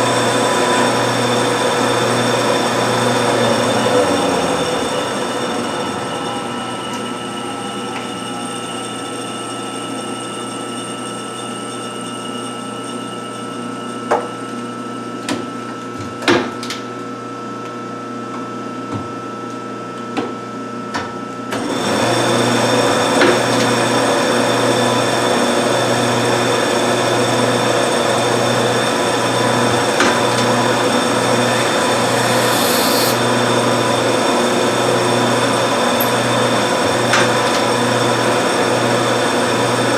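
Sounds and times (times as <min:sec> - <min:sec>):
lathe machine whine: 0:00.0 - 0:15.3, 0:21.6 - 0:39.9.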